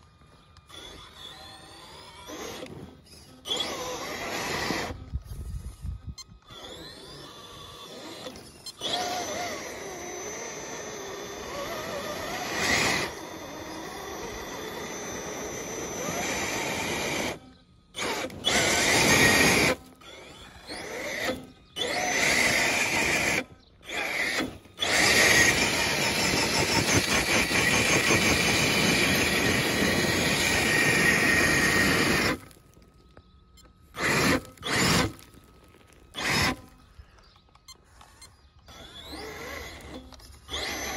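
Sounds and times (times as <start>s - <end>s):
tyres churning in loose dirt: 0.0s - 5.8s, 6.4s - 40.9s
electric motor whining: 0.0s - 40.9s.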